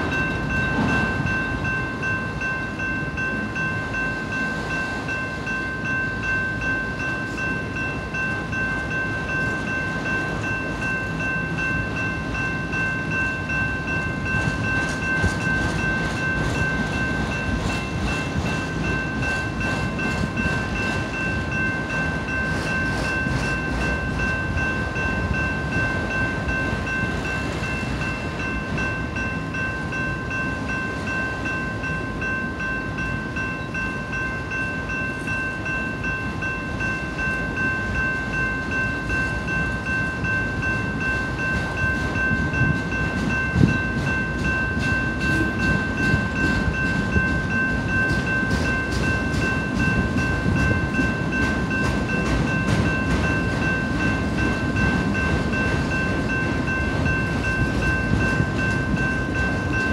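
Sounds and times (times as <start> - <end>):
crossing warning bell ringing: 0.0 - 59.9
freight train rumbling past: 0.0 - 59.9.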